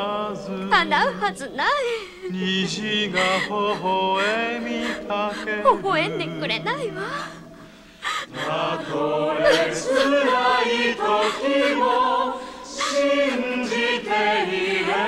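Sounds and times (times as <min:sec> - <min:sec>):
choir singing slow melody: 0:00.0 - 0:15.0.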